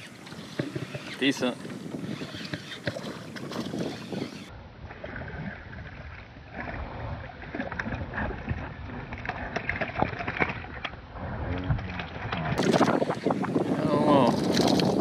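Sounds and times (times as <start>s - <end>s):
waves lapping against boat: 0.0s - 15.0s.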